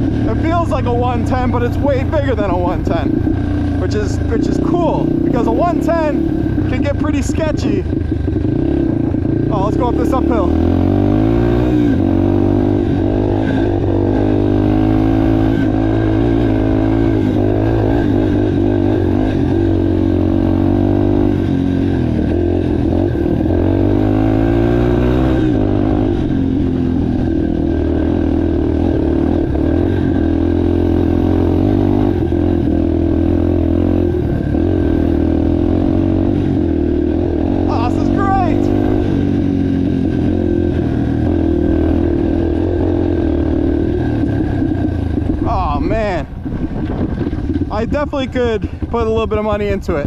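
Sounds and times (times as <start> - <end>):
motorbike engine revving: 0.0 - 50.0.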